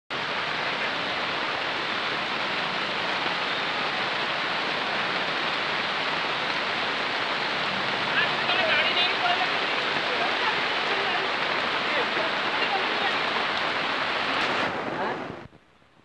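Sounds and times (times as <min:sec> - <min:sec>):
heavy rain on street and roofs: 0:00.1 - 0:16.0.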